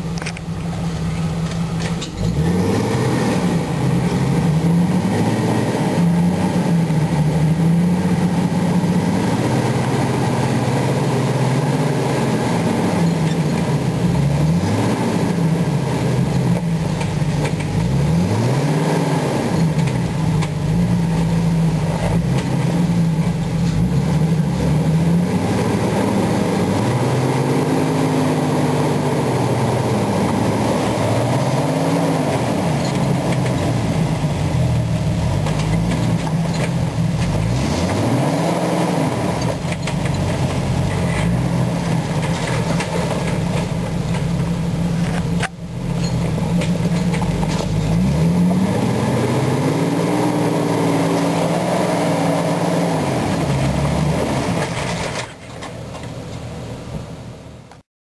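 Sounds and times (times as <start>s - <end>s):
off-road vehicle engine revving: 0.0s - 56.9s.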